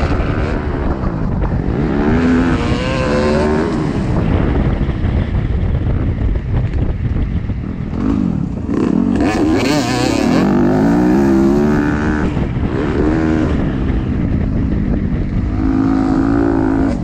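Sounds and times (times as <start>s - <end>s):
dirt bike engine revving: 0.0s - 5.0s, 7.7s - 17.0s
wind buffeting microphone: 0.0s - 17.0s.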